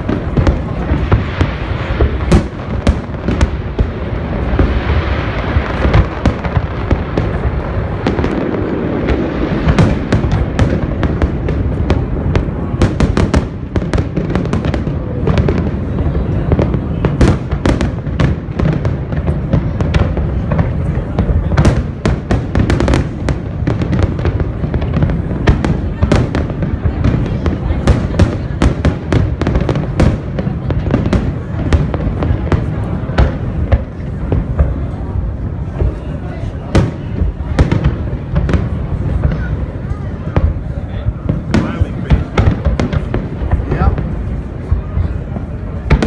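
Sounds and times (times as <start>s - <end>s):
fireworks cracks and bangs: 0.0s - 46.0s.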